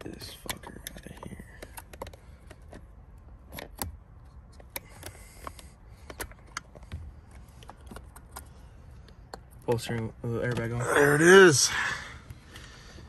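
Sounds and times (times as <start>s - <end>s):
small pick clicking and scraping: 0.0s - 11.0s.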